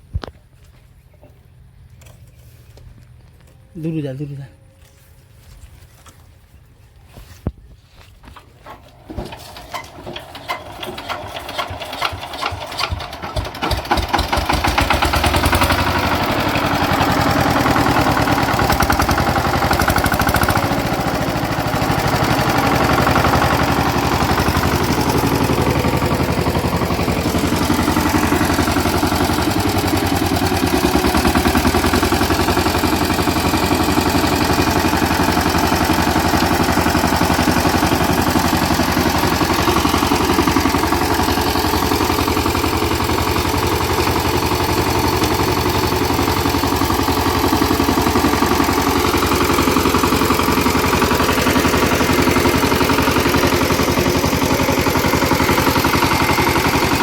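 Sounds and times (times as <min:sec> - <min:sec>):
power tiller engine starting: 0:08.2 - 0:57.0.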